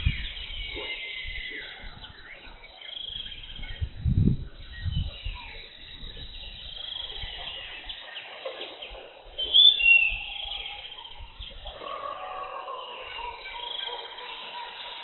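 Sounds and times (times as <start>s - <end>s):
forest birds chirping: 0.0s - 15.0s.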